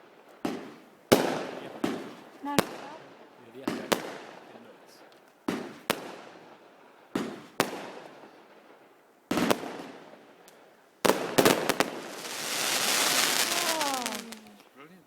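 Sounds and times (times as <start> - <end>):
fireworks bangs: 0.0 - 14.7
fireworks cracks: 0.0 - 14.8
crackling hiss: 0.0 - 15.0.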